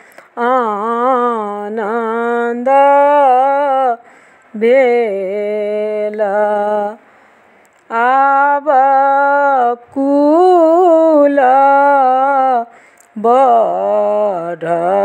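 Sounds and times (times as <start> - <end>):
woman singing unaccompanied: 0.0 - 7.1, 7.8 - 15.0.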